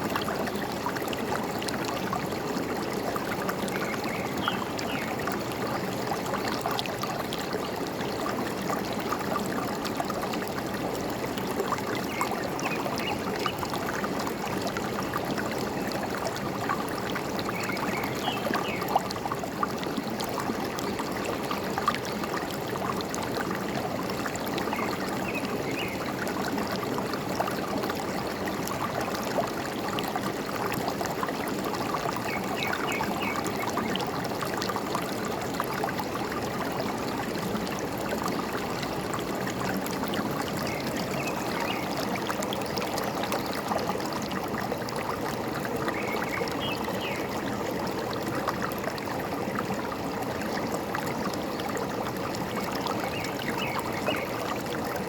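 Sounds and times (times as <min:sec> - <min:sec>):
stream flowing and gurgling: 0:00.0 - 0:55.0.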